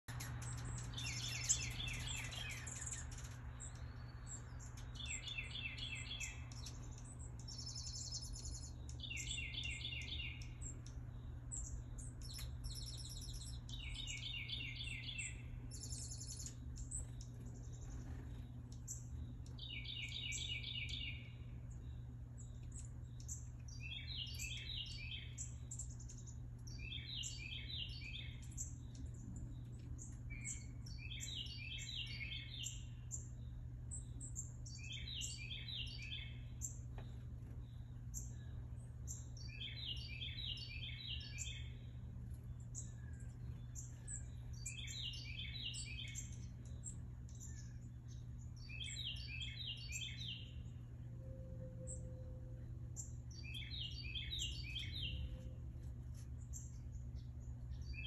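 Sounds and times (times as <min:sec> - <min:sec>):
choppy bird chirps: 0:00.0 - 0:55.6
low steady hum: 0:00.0 - 0:58.0.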